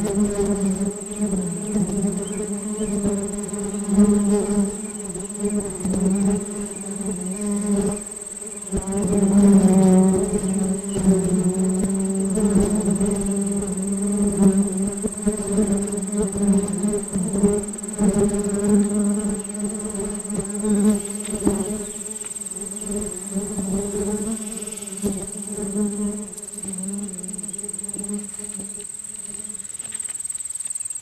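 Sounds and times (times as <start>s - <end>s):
bees buzzing: 0.0s - 29.8s
high-pitched insect tone: 0.0s - 31.0s.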